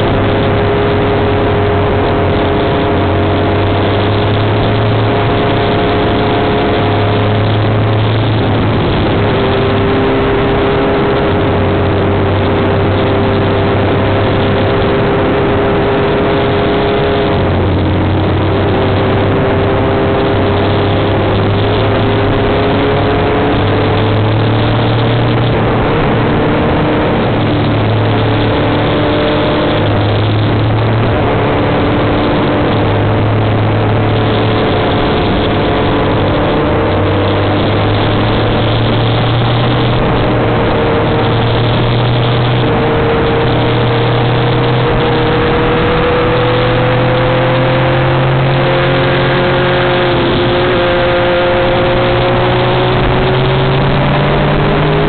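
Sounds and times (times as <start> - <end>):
motorcycle engine running: 0.0 - 55.0
wind rushing on microphone: 0.0 - 55.0.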